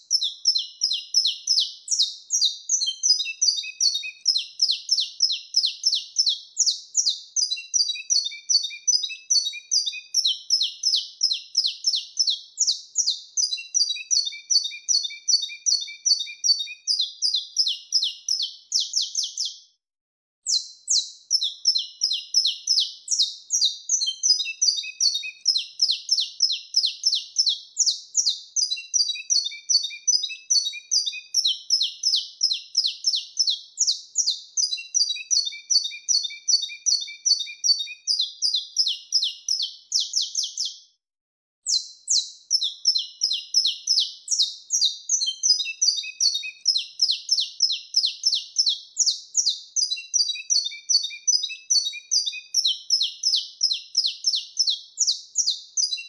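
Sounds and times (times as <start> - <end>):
finch singing high chirps: 0.0 - 19.7, 20.5 - 40.9, 41.6 - 56.0.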